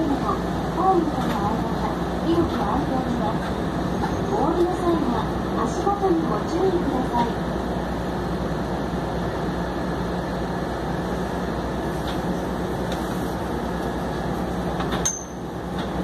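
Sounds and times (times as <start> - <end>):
monorail running hum: 0.0 - 16.0.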